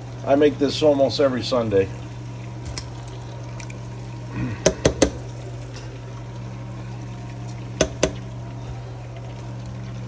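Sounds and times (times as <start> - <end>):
oil bubbling in a pot: 0.0 - 10.0.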